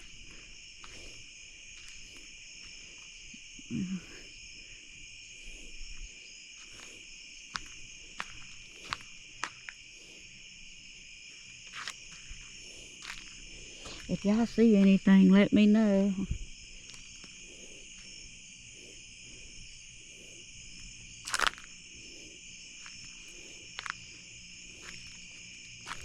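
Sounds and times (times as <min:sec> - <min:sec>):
crickets and night insects: 0:00.0 - 0:26.0.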